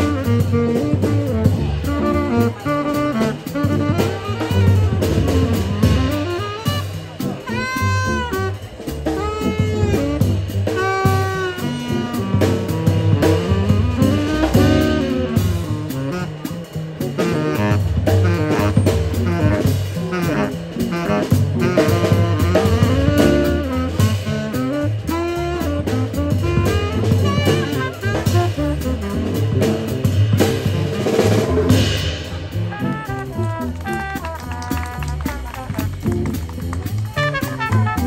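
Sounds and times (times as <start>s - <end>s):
drum kit and cymbals: 0.0s - 38.0s
saxophone melody: 0.0s - 38.0s
upright bass: 0.0s - 38.0s.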